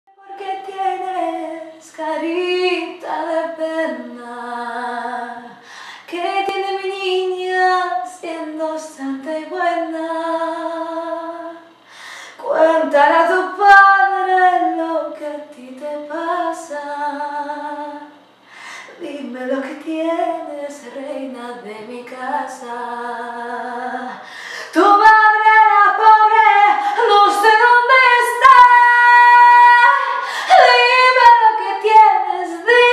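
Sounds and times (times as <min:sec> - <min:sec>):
woman singing unaccompanied: 0:00.1 - 0:32.9.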